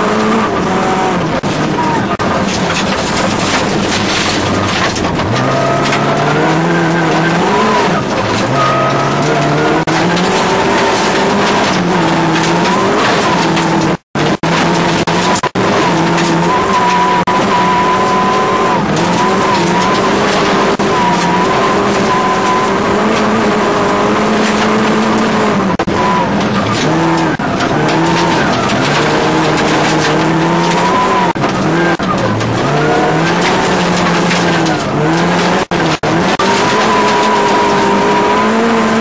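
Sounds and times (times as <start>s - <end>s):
car engine revving hard: 0.0s - 39.0s
tyres on gravel: 0.0s - 39.0s.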